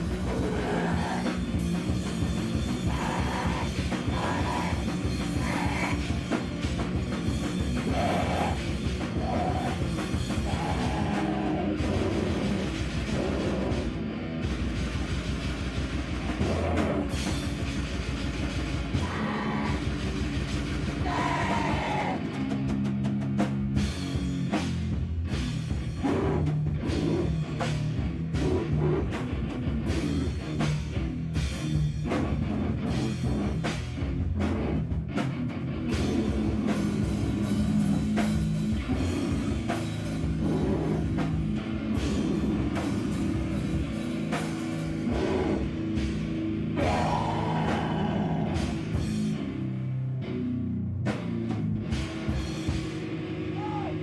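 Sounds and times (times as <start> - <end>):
fast drum kit strokes: 0.0 - 49.7, 51.1 - 54.0
live heavy rock band: 0.0 - 54.0.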